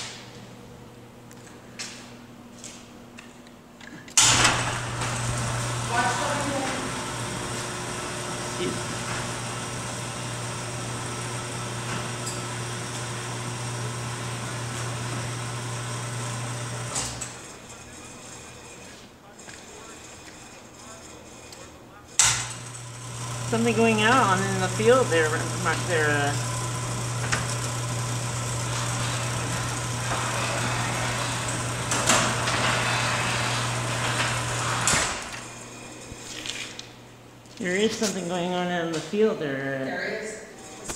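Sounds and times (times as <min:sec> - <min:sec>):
garage door opener motor humming: 0:04.1 - 0:38.6.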